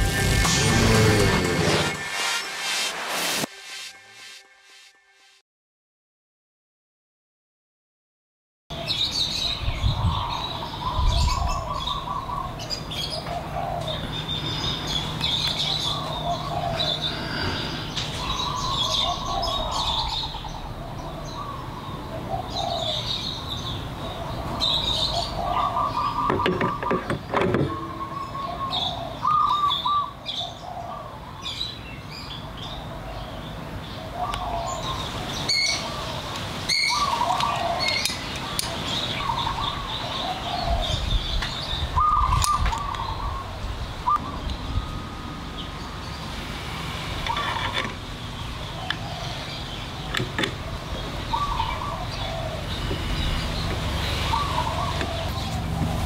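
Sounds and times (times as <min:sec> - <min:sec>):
birds chirping: 0:08.7 - 0:56.0.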